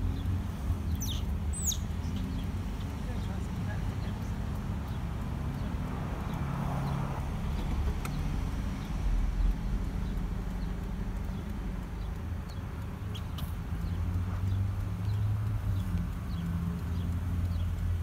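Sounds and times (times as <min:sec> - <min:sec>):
faint high ticks: 0:00.0 - 0:18.0.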